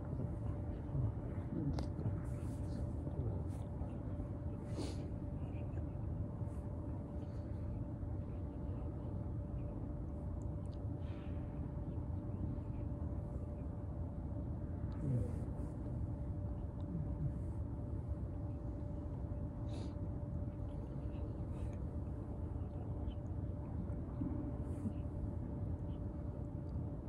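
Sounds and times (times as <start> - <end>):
faint hum: 0.0 - 27.0.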